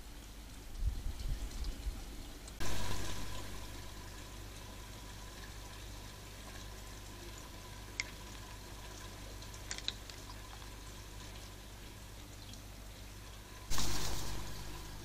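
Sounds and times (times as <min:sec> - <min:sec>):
electrical hum and hiss: 0:00.0 - 0:15.0
faint steady whine: 0:02.3 - 0:15.0.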